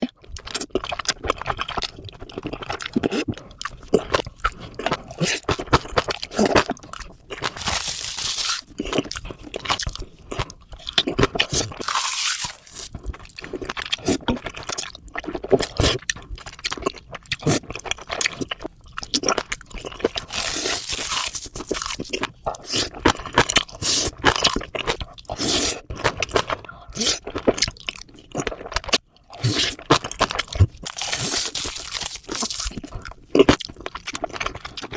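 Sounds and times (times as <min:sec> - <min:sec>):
food crunching and chewing: 0:00.0 - 0:34.9.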